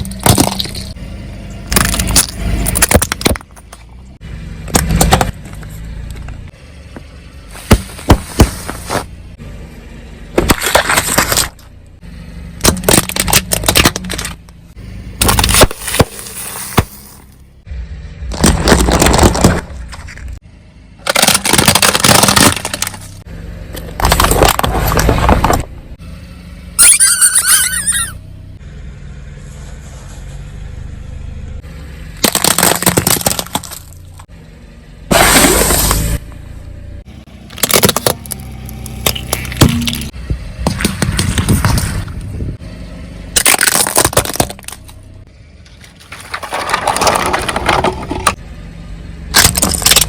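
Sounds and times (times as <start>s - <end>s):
car tyre crushing objects: 0.0s - 9.4s, 10.2s - 26.0s, 31.6s - 34.4s, 35.0s - 48.4s, 49.2s - 50.0s.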